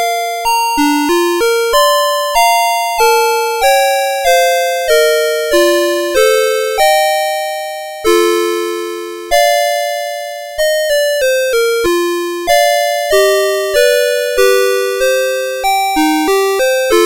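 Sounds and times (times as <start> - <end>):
electronic alarm clock melody: 0.0 - 17.0.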